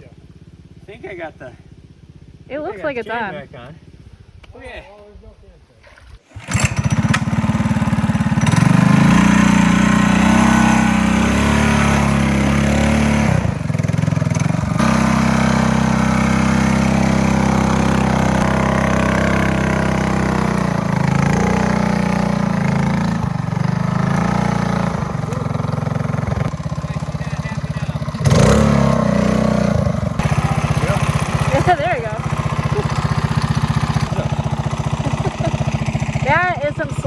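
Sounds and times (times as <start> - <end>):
mini bike engine running: 0.0 - 3.3, 6.0 - 37.0.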